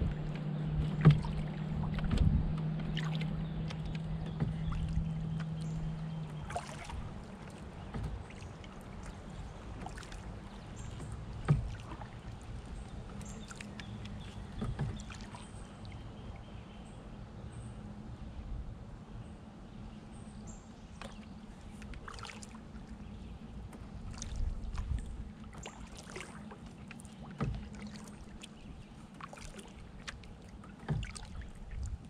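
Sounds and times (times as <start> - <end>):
low steady hum: 0.0 - 32.0
water moving along canoe hull: 0.0 - 32.0.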